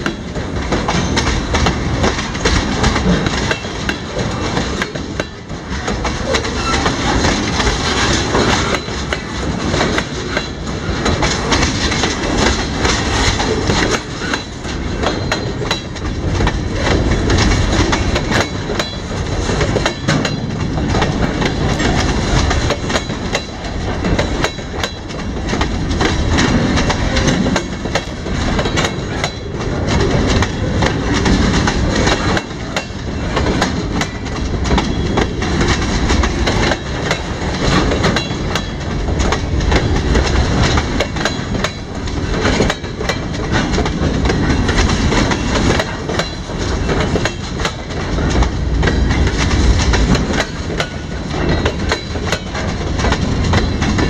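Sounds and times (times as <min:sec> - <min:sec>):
freight train rolling past: 0:00.0 - 0:54.0
wheels clacking over rail joints: 0:00.0 - 0:54.0.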